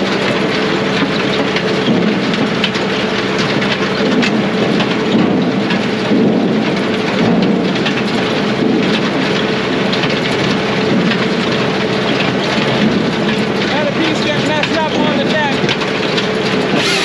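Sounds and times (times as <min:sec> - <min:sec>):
firewood processor rumbling: 0:00.0 - 0:17.0.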